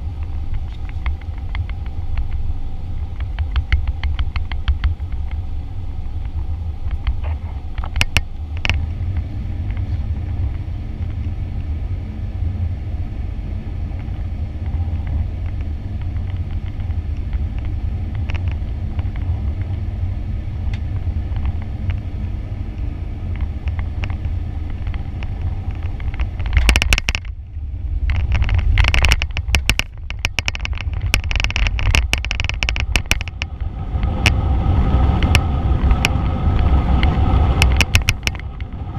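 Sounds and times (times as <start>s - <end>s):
airliner engines rumbling: 0.0s - 38.9s
rattling and bumping on runway: 0.0s - 38.9s.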